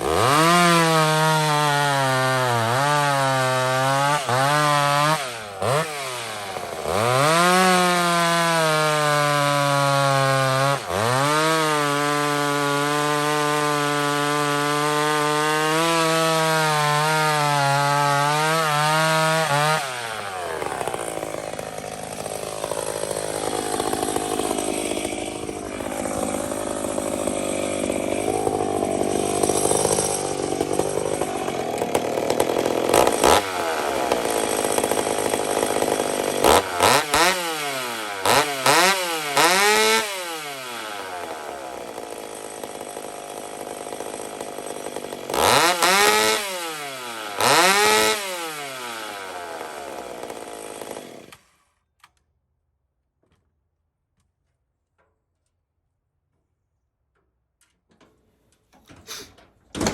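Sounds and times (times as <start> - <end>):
chainsaw cutting a log: 0.0 - 51.7.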